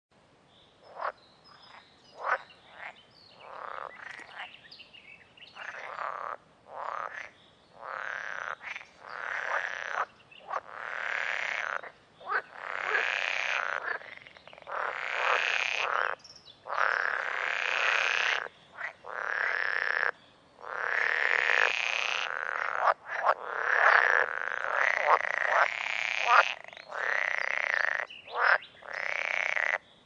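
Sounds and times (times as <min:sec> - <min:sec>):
frogs croaking: 0:00.8 - 0:30.0.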